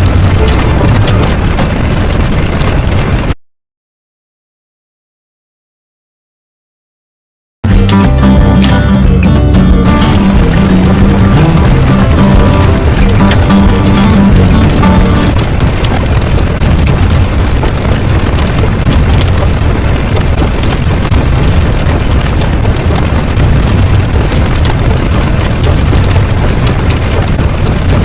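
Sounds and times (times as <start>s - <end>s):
explosion rumbling roar with crackle: 0.0s - 3.4s, 7.9s - 28.0s.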